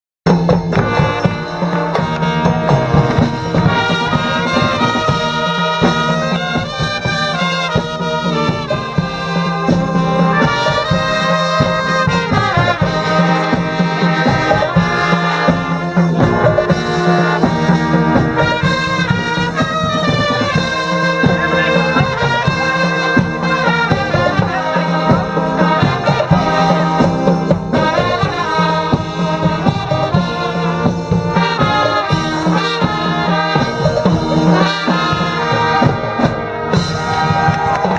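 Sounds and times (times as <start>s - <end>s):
street brass band playing: 0.3s - 37.9s.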